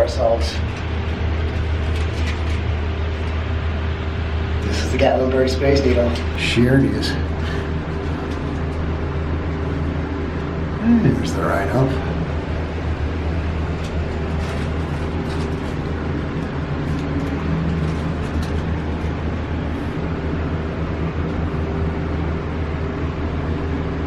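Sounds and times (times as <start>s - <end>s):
elevator low hum: 0.0s - 24.0s.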